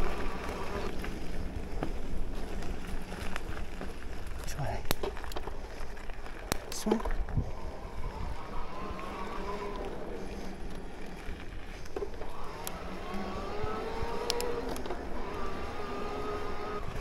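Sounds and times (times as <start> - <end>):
electric bike motor whining: 0.0 - 4.2, 7.2 - 17.0.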